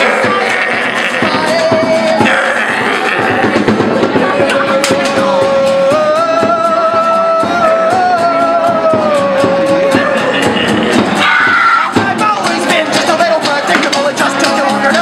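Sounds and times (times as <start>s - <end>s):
man singing: 0.0s - 11.2s, 11.9s - 15.0s
strummed acoustic guitar: 0.0s - 11.3s, 11.9s - 15.0s.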